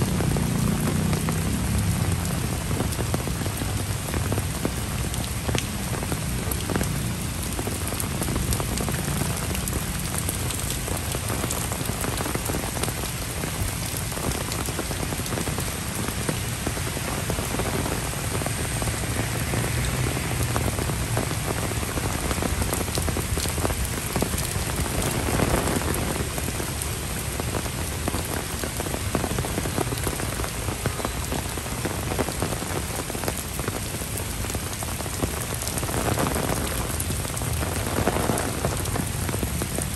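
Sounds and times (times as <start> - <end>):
close raindrop hits: 0.0 - 39.9
heavy rain falling: 0.0 - 39.9.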